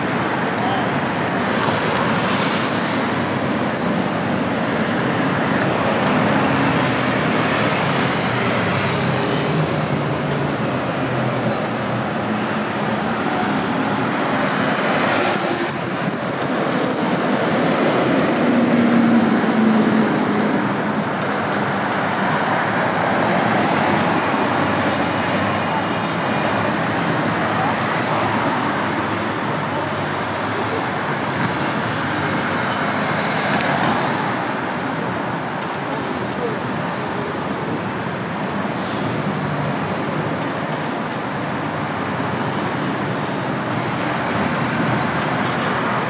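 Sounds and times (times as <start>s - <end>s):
road traffic noise: 0.0s - 46.0s
vehicles passing: 0.0s - 46.0s.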